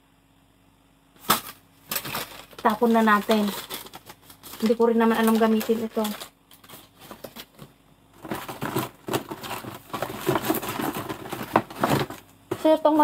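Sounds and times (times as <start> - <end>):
plastic and paper rustling: 1.3 - 13.0.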